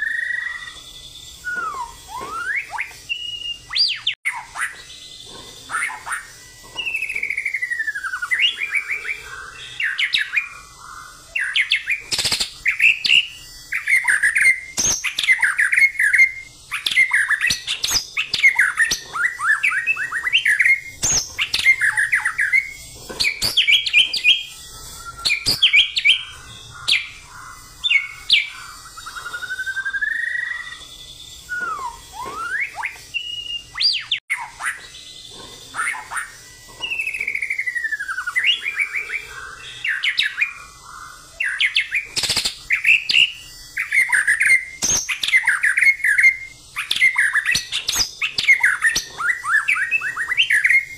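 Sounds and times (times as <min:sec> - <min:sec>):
songbird singing whistled song: 0:00.0 - 0:50.9.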